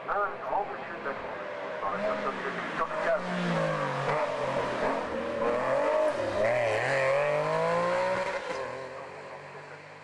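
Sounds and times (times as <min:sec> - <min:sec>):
race car engine accelerating: 0:01.8 - 0:10.0.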